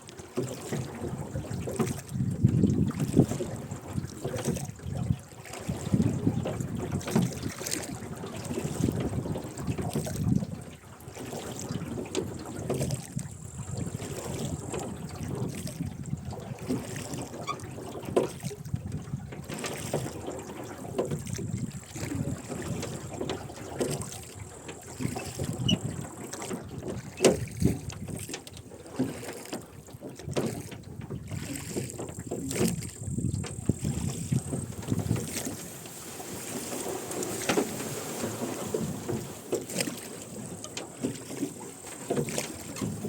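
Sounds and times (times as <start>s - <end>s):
moving water: 0.0s - 43.0s
oars splashing: 0.0s - 43.0s
wind: 0.0s - 43.0s.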